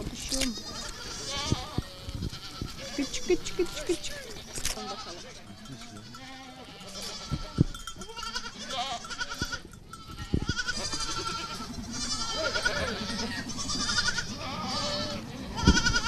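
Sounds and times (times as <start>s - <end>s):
goat kids bleating: 0.0s - 16.0s.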